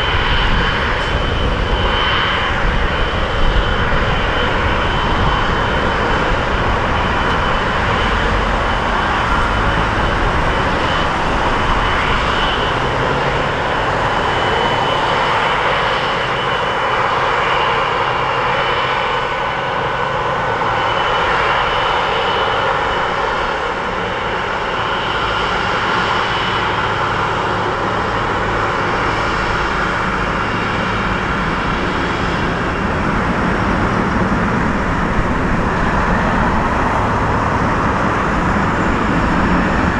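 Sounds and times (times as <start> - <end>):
jet engines at taxi power: 0.0 - 39.9.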